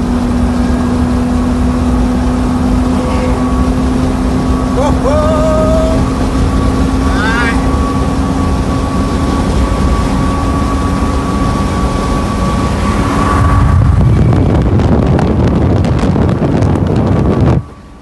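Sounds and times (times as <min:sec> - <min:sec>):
engine drone with road noise: 0:00.0 - 0:18.0
wind buffeting microphone: 0:00.0 - 0:18.0.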